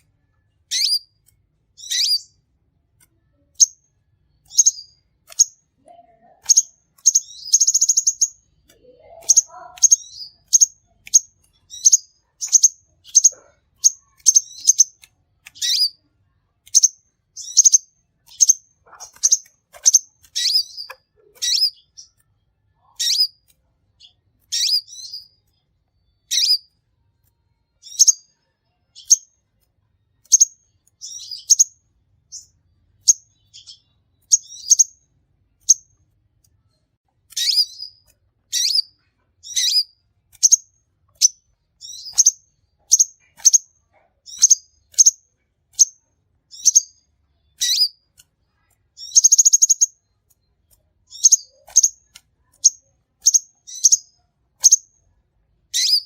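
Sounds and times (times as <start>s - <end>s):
bird chipping and twittering: 0.6s - 1.2s, 1.8s - 2.4s, 3.3s - 16.0s, 16.6s - 22.2s, 22.8s - 26.7s, 27.8s - 29.3s, 30.2s - 36.0s, 37.3s - 54.9s, 55.7s - 56.0s.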